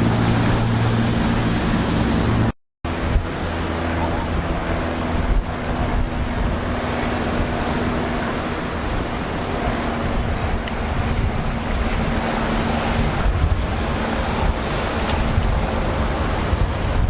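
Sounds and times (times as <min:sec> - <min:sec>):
boat engine humming: 0:00.0 - 0:17.0
waves and surf: 0:00.0 - 0:17.0
wind buffeting microphone: 0:00.0 - 0:17.0.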